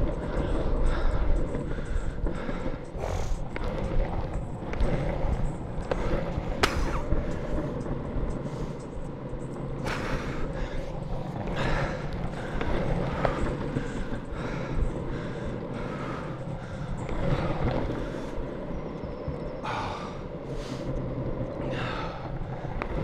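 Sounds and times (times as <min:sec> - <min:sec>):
longboard wheels rolling on pavement: 0:00.0 - 0:23.0.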